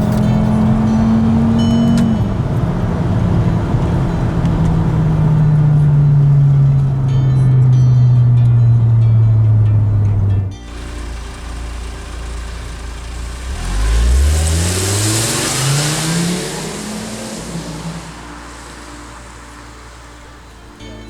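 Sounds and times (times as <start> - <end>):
car exhaust accelerating: 0.0 - 21.0.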